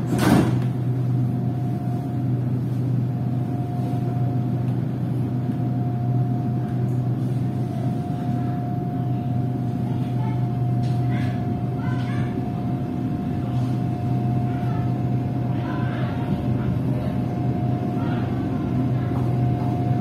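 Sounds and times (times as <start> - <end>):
thin constant whine: 0.0 - 20.0
train cabin low hum: 0.0 - 20.0.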